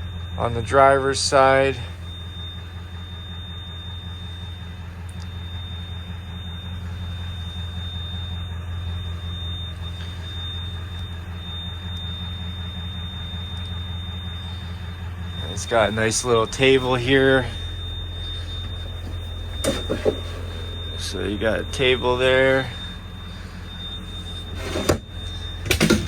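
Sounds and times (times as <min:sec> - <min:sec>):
diesel engine idling: 0:00.0 - 0:26.0
high-pitched whine: 0:00.0 - 0:26.0.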